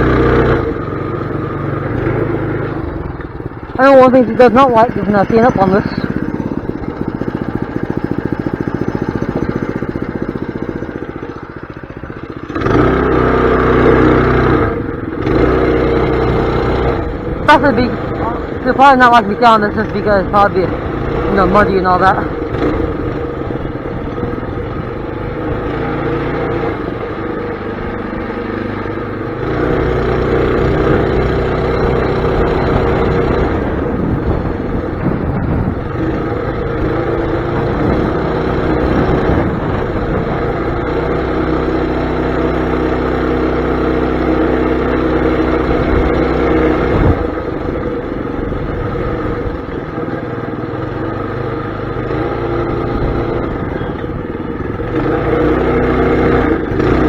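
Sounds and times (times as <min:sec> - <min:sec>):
mini bike engine running: 0:00.0 - 0:57.0.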